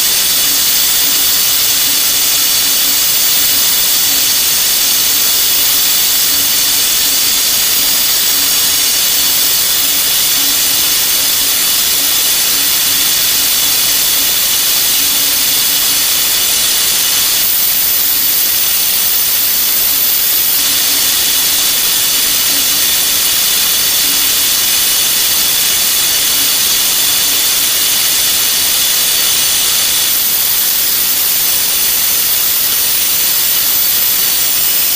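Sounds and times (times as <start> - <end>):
cnc spindle high-pitched whine: 0.0 - 34.9.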